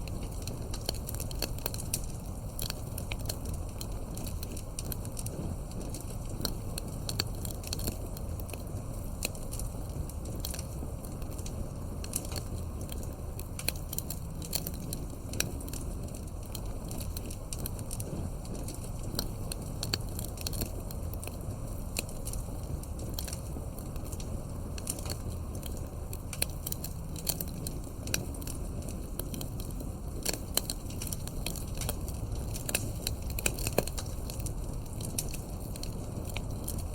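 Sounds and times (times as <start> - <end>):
fire crackling and popping: 0.0 - 36.9
low rumble of flames: 0.0 - 36.9.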